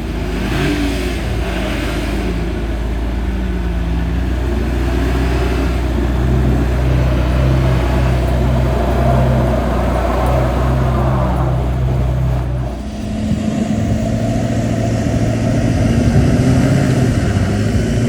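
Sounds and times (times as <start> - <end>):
heavy truck engines revving: 0.0 - 18.0
steady low drone: 0.0 - 18.0.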